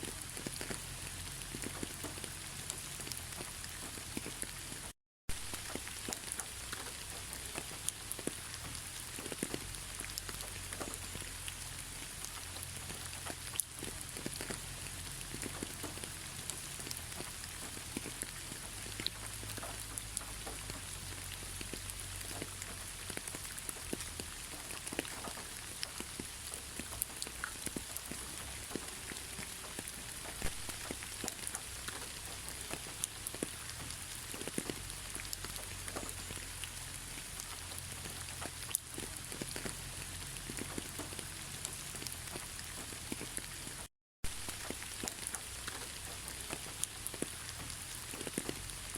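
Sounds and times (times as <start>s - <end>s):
rain hissing: 0.0s - 48.9s
raindrops tapping: 0.0s - 48.9s.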